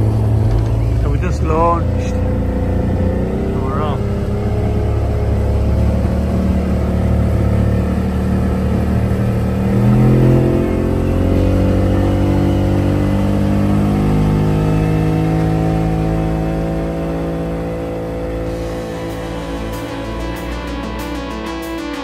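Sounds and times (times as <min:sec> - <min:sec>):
outboard motor accelerating: 0:00.0 - 0:22.0.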